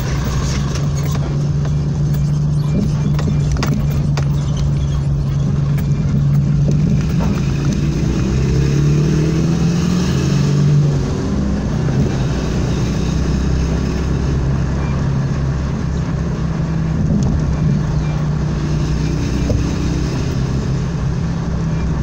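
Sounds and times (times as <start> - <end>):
car engine cruising: 0.0 - 22.0
road noise: 0.0 - 22.0.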